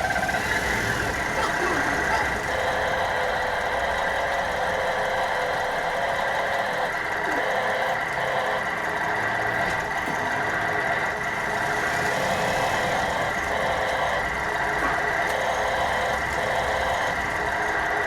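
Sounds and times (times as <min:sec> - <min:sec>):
model truck engine drone: 0:00.0 - 0:18.0.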